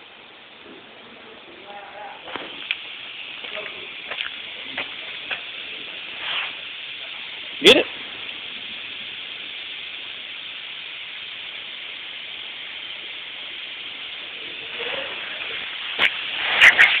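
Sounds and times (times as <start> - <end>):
compressed air hissing from hose: 1.6 - 17.0.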